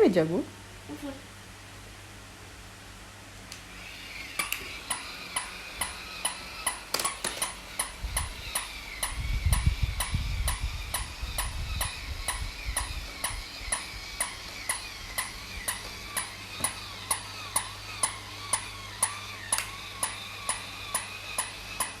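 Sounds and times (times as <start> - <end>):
steady clicking: 4.4 - 22.0.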